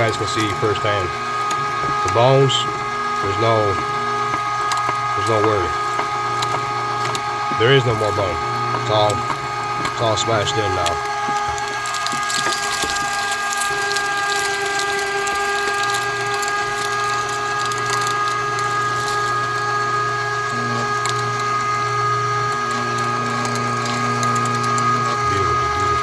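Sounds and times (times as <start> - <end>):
bones cracking in grinder: 0.0 - 26.0
electric meat grinder whining: 0.0 - 26.0.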